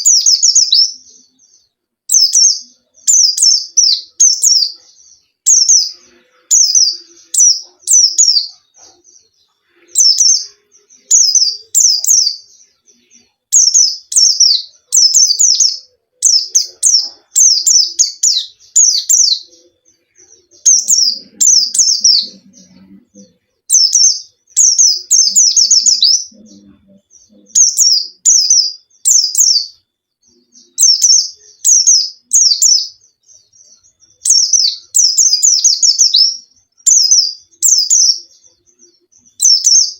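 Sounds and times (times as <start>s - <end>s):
songbird singing rapid high phrases: 0.0s - 39.9s.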